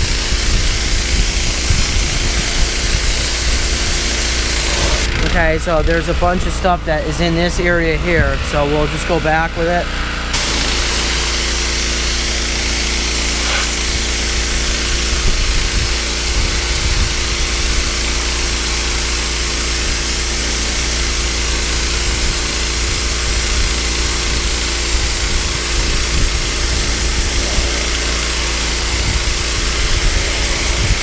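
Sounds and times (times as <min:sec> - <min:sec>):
pressure washer spray hiss: 0:00.0 - 0:05.1, 0:10.4 - 0:31.0
pressure washer engine drone: 0:00.0 - 0:31.0.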